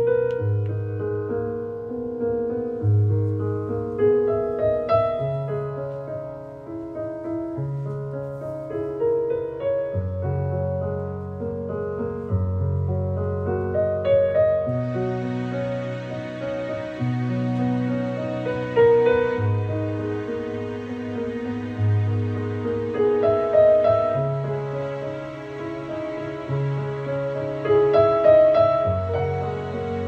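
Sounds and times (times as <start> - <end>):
slow piano piece: 0.0 - 30.0.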